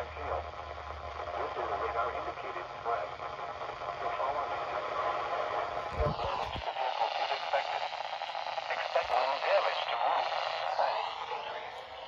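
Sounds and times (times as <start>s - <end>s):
faint voice on radio: 0.0s - 12.0s
static hiss: 0.0s - 12.0s.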